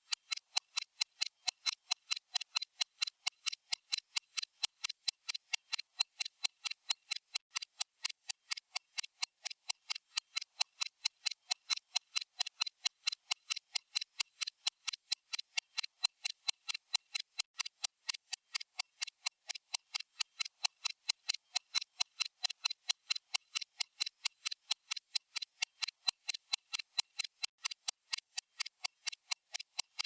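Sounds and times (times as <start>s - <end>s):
stopwatch ticking: 0.0s - 30.0s.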